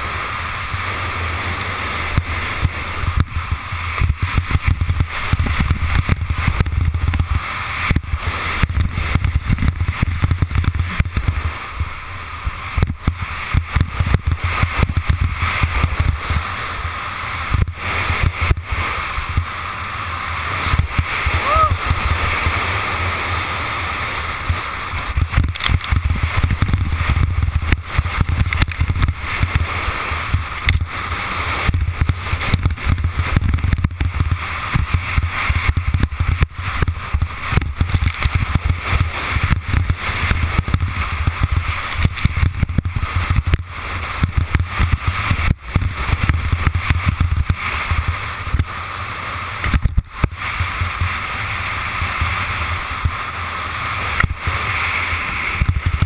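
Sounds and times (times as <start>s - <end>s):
skis scraping over snow: 0.0s - 56.0s
wind buffeting camera: 0.0s - 56.0s.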